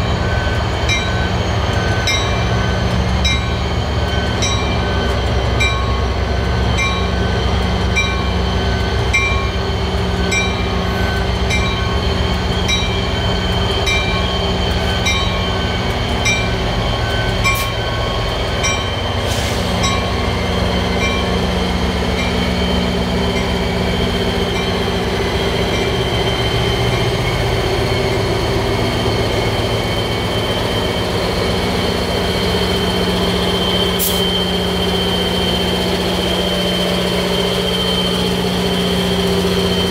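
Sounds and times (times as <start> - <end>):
diesel locomotive engine droning: 0.0 - 39.9
locomotive bell ringing: 0.0 - 39.9.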